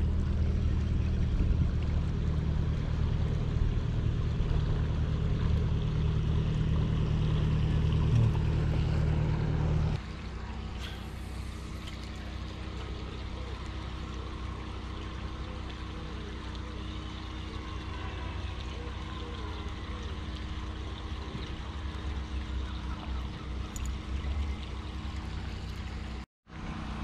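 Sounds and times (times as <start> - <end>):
boat engine humming: 0.0 - 27.0
outdoor background: 0.0 - 27.0.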